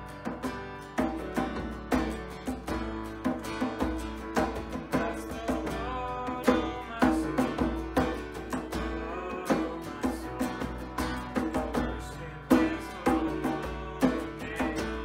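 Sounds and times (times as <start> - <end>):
worship band playing: 1.2 - 15.0.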